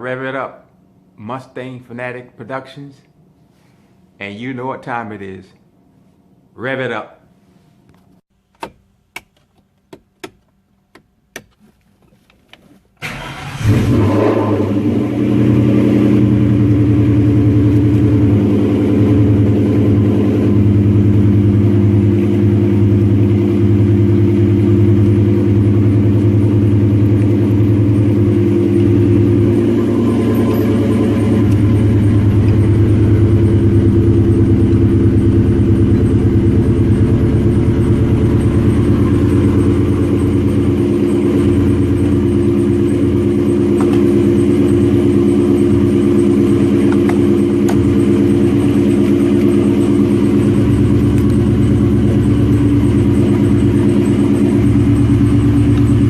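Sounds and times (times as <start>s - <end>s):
car engine cranking and idling: 7.9s - 56.0s.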